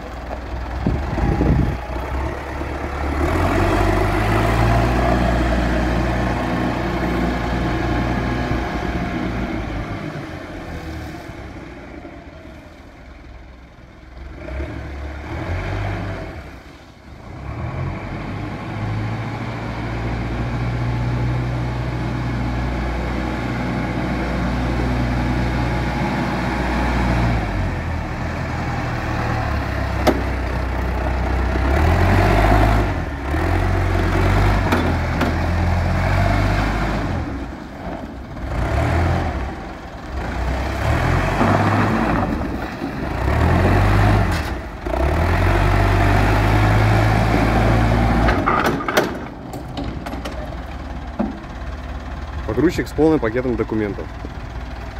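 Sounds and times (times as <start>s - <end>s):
forklift diesel engine running: 0.0s - 54.9s.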